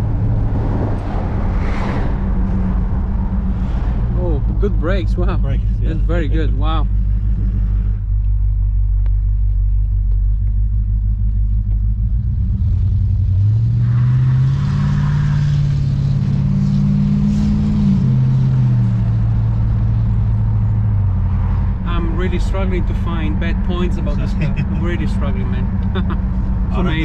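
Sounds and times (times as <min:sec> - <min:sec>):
car engine idling and accelerating: 0:00.0 - 0:27.0.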